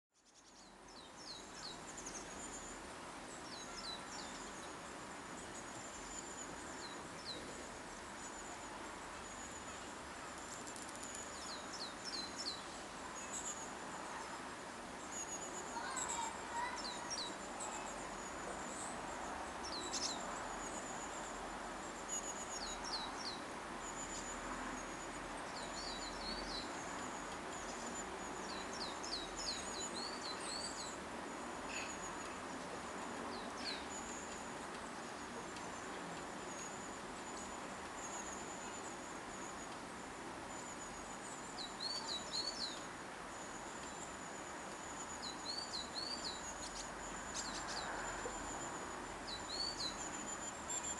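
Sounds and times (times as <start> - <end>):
background hiss: 0.2 - 50.9
small birds chirping: 0.2 - 50.9.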